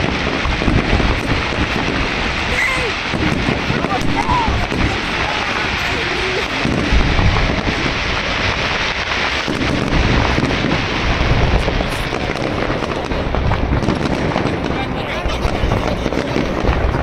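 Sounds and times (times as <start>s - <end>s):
deep firework booms: 0.0s - 17.0s
fireworks bangs and crackles: 0.0s - 17.0s.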